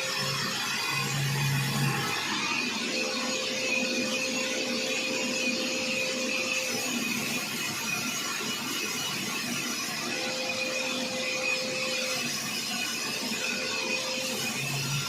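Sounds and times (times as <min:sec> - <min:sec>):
saw machine whine: 0:00.0 - 0:15.0.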